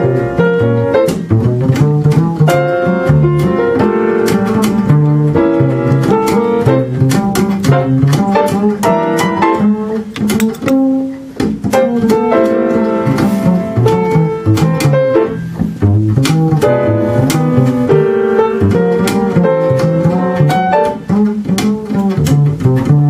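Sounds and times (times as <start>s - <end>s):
plucked double bass: 0.0s - 23.0s.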